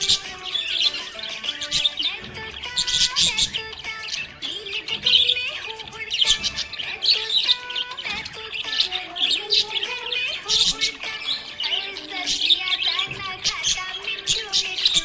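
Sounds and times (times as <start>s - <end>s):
budgerigar chirping and warbling: 0.0s - 15.0s
steady background music: 0.0s - 15.0s.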